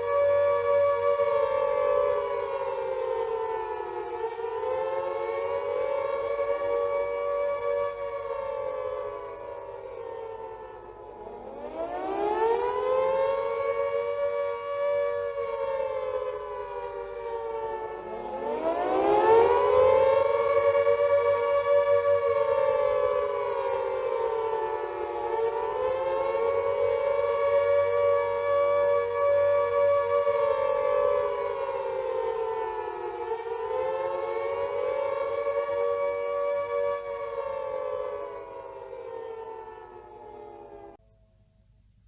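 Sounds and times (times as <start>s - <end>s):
air raid siren wailing: 0.0s - 41.9s.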